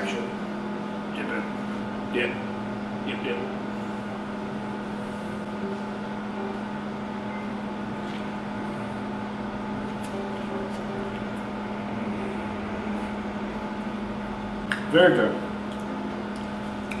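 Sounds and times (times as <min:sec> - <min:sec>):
equipment humming: 0:00.0 - 0:17.0.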